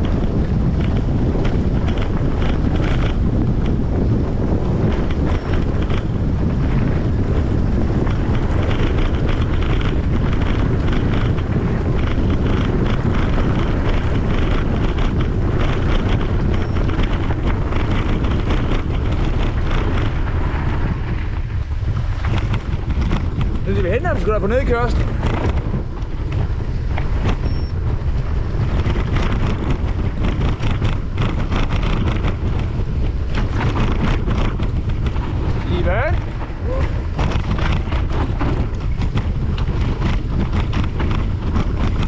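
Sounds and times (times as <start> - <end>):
bike rattling over gravel: 0.0 - 42.0
wind buffeting microphone: 0.0 - 42.0.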